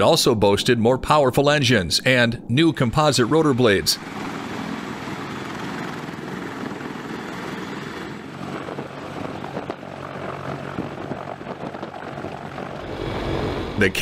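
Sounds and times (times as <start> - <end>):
helicopter rotors and engines: 2.6 - 14.0.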